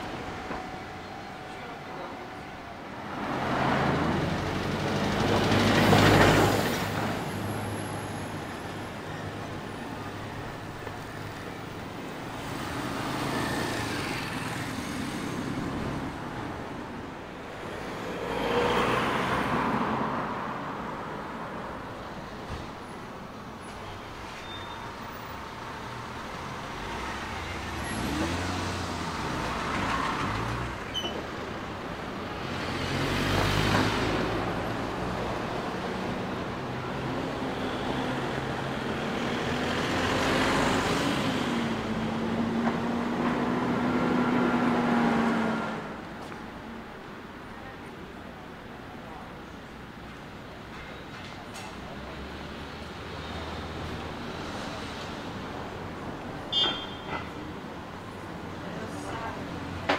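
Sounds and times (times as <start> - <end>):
vehicles driving past: 0.0 - 24.3, 25.0 - 59.9.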